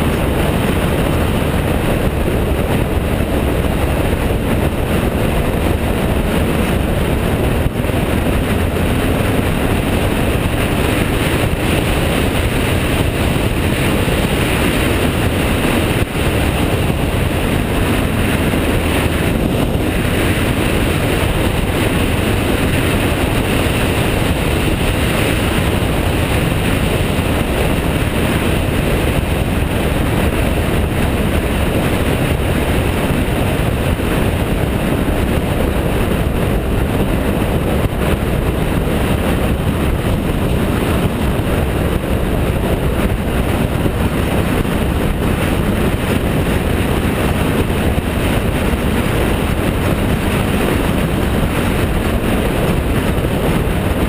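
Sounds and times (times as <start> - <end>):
motorcycle cruising: 0.0 - 54.0
wind noise: 0.0 - 54.0.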